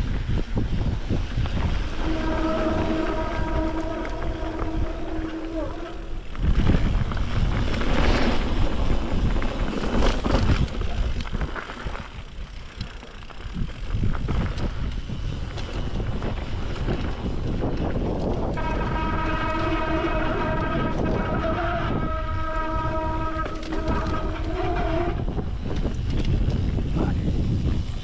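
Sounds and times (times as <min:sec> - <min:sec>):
mountain bike rattling: 0:00.0 - 0:28.0
wind noise: 0:00.0 - 0:28.0.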